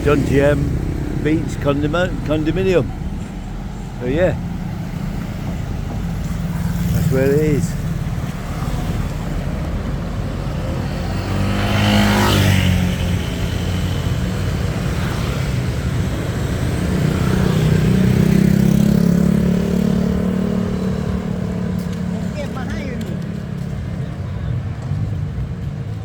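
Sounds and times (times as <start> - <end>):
vehicle engines running: 0.0 - 26.0
vehicle passing: 0.0 - 26.0.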